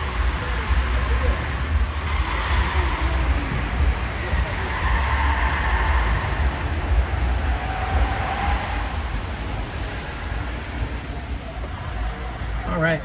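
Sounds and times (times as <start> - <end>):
low road rumble: 0.0 - 13.0.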